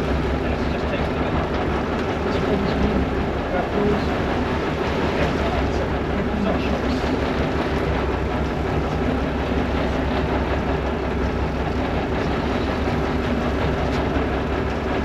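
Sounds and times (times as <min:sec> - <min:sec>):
boat engine humming: 0:00.0 - 0:15.0
rushing water noise: 0:00.0 - 0:15.0.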